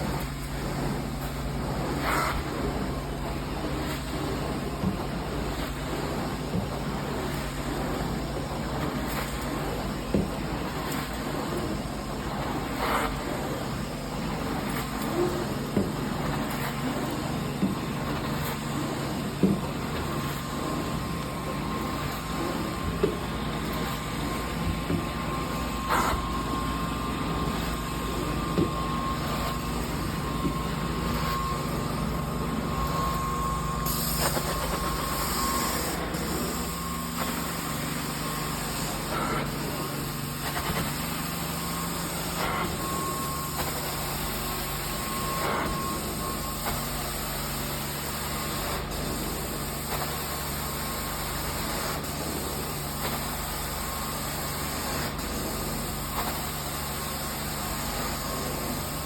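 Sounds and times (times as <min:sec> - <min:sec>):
carpet cleaning machine humming: 0:00.0 - 0:59.0.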